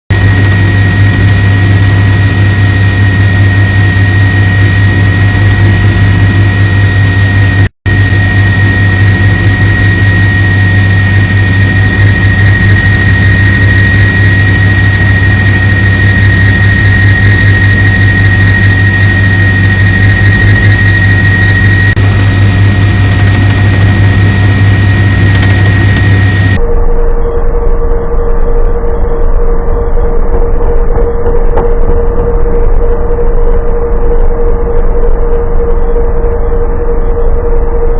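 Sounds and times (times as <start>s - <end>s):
helicopter rotor rumble: 0.1s - 37.9s
high-pitched turbine whine: 0.1s - 37.9s.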